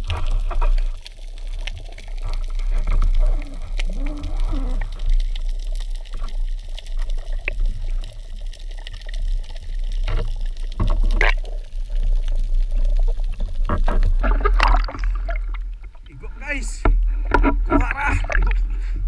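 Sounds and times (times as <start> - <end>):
bubbling bursts: 0.0 - 12.8, 13.4 - 18.9
clicks underwater: 0.0 - 16.1, 16.8 - 19.0
muffled underwater rush of water: 0.0 - 19.0.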